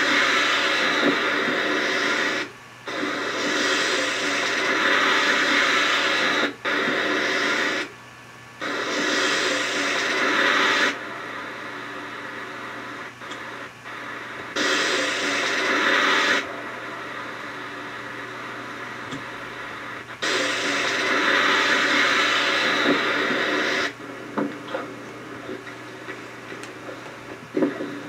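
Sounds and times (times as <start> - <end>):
loud static hiss: 0.0 - 28.0
steady low hum: 0.0 - 28.0.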